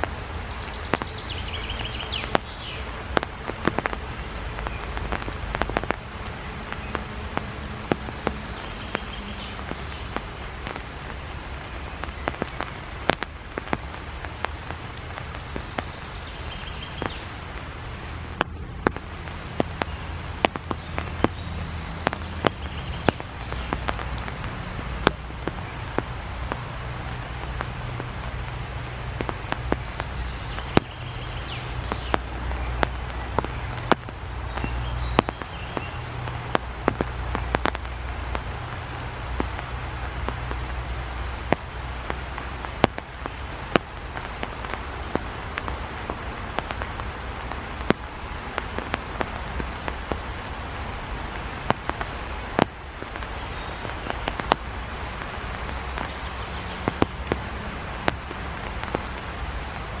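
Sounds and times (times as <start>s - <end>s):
rain on wet asphalt: 0.0s - 60.0s.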